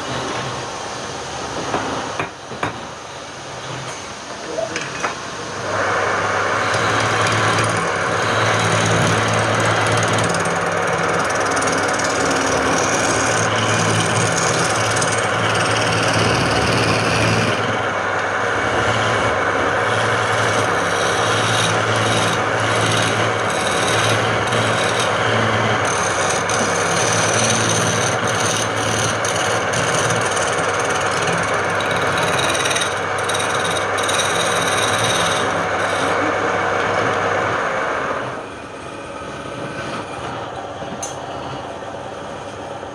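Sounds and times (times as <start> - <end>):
lathe motor humming: 5.3 - 42.4
tool scraping spinning wood: 5.5 - 41.6.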